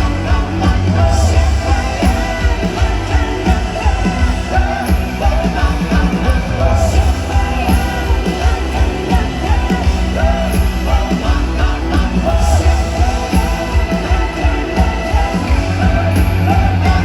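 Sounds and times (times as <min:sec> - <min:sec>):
heavy bass: 0:00.0 - 0:17.0
live rock band playing: 0:00.0 - 0:17.0.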